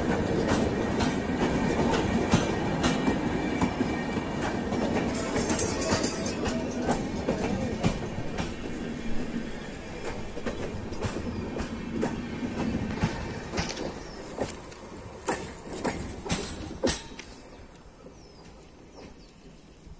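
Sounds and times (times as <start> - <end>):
wheels clicking over rail joints: 0.0 - 9.2, 9.9 - 19.5
train wheels rumbling on rails: 0.0 - 19.9.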